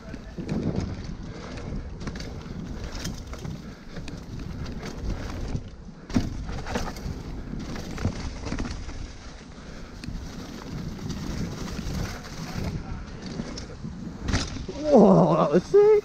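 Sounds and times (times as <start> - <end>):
bike rattling over bumps: 0.0 - 16.0
bike tyres rolling on dirt: 0.0 - 16.0
wind rumbling on microphone: 0.0 - 16.0.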